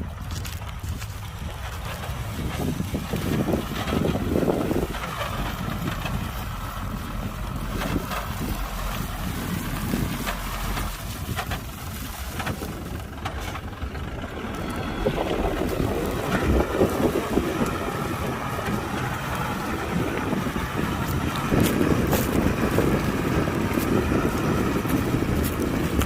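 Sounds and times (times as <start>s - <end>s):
diesel engine rumbling: 0.0s - 26.0s
wind on microphone: 0.0s - 26.0s.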